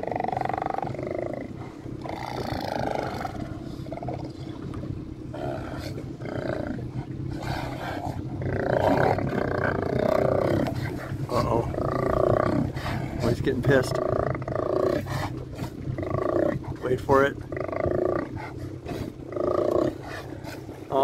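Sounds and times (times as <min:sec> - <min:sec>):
sea lions roaring: 0:00.0 - 0:21.0
steady low hum: 0:00.0 - 0:21.0.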